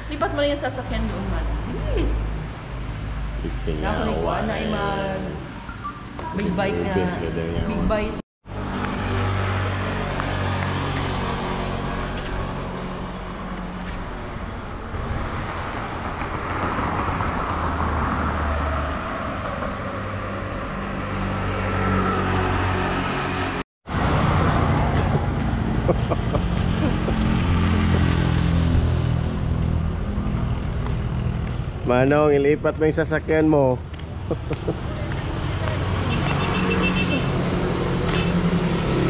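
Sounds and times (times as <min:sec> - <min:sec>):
vehicle engines passing: 0:00.0 - 0:39.0.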